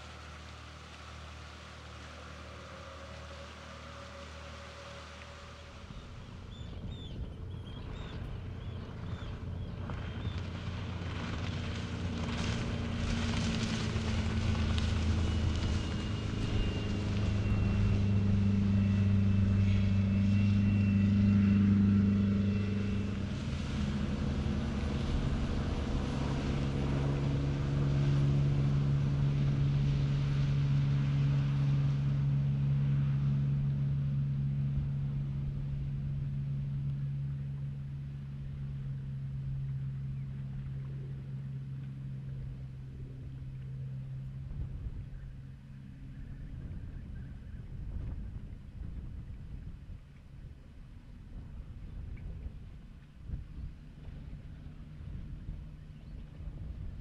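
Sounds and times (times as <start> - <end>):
boat engine drone: 0.0 - 57.0
faint high whine: 0.0 - 57.0
hull rushing through water: 0.0 - 57.0.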